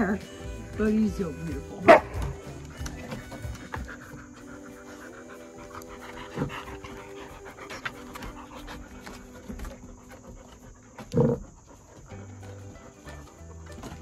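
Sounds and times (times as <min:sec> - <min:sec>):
dog panting: 0:01.4 - 0:14.0.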